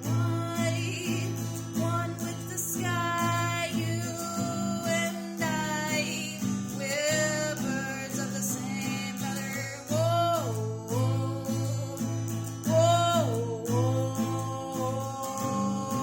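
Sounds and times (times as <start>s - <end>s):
acoustic guitar: 0.0s - 16.0s
person singing: 0.0s - 16.0s.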